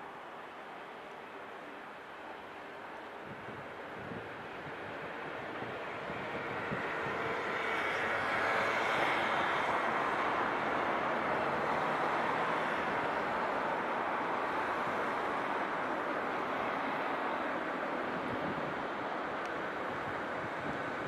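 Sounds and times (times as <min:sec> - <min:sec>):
electric train wheels on rail: 0:00.9 - 0:21.0.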